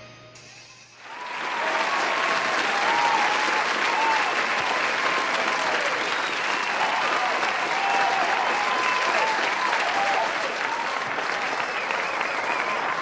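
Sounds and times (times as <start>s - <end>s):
crowd clapping: 1.0s - 13.0s
crowd shouts: 1.0s - 13.0s.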